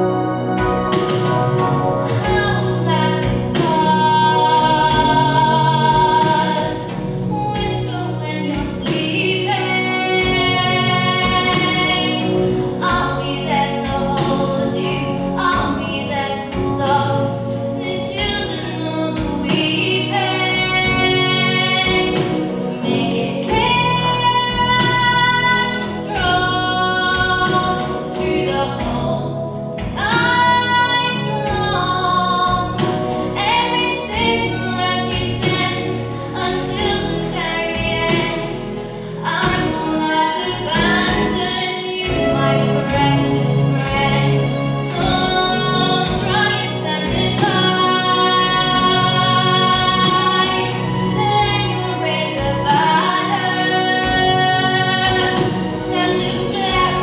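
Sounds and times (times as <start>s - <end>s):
musical accompaniment: 0.0s - 57.0s
girl singing with vibrato: 2.2s - 22.2s, 29.9s - 57.0s.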